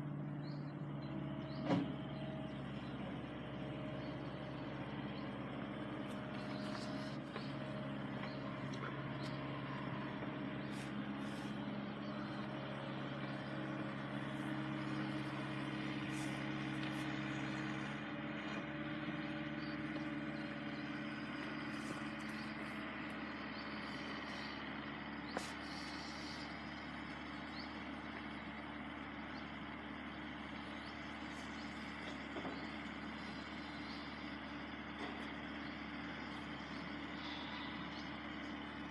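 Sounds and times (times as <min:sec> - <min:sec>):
diesel train engine drone: 0:00.0 - 0:38.9.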